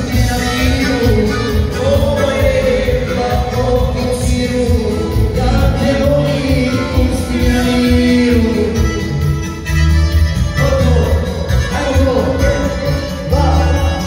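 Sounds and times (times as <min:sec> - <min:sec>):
man singing into microphone: 0:00.0 - 0:09.8, 0:10.6 - 0:14.0
live band dance beat: 0:00.0 - 0:14.0.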